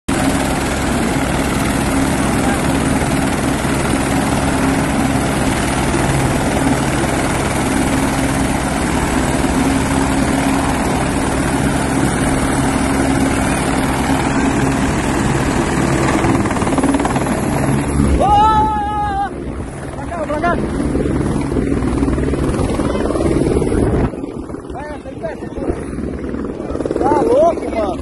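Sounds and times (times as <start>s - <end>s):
helicopter rotor beat: 0.1s - 28.0s
turbine whine: 0.1s - 28.0s.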